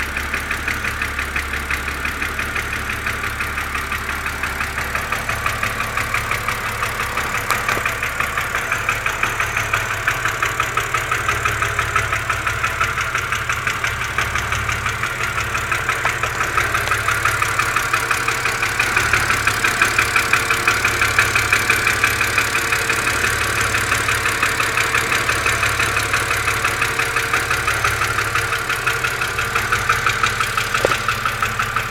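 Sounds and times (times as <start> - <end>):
car engine idling: 0.0 - 31.9
fast even engine ticking: 0.0 - 31.9.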